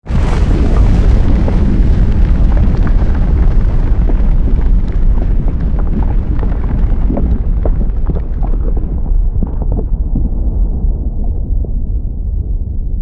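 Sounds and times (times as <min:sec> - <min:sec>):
crackles and pops: 0:00.0 - 0:13.0
deep volcanic rumble: 0:00.0 - 0:13.0.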